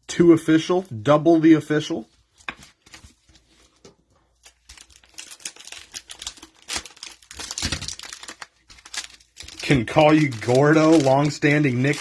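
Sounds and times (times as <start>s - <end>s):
cellophane wrapper crinkling: 2.4s - 12.0s.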